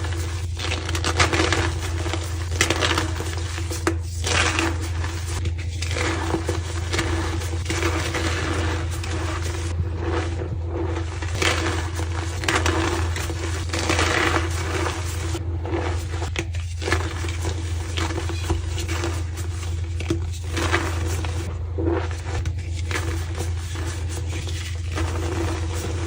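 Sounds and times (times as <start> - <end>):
chalk crunching and crumbling: 0.0 - 26.0
low hum: 0.0 - 26.0.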